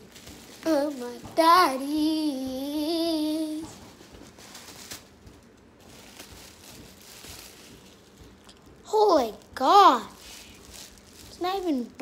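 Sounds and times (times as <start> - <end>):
faint rustling and handling noise: 0.0 - 12.0.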